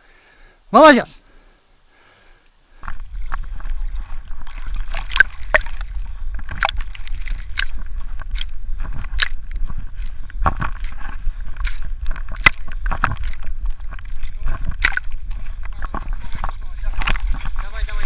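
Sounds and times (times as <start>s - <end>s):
water sloshing around boat: 2.8s - 18.0s.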